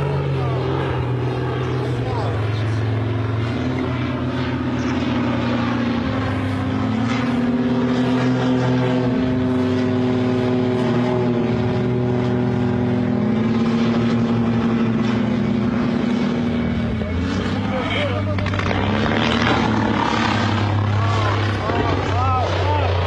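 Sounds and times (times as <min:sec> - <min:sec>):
propeller aircraft engines droning: 0:00.0 - 0:23.0.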